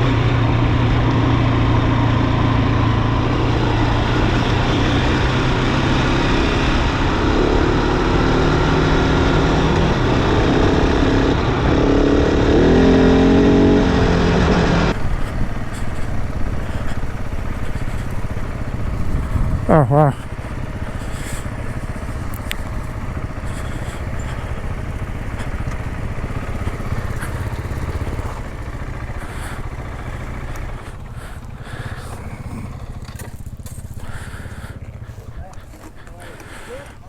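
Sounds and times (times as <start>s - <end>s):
motorcycle engine accelerating: 0.0s - 37.0s
wind and road noise: 0.0s - 37.0s.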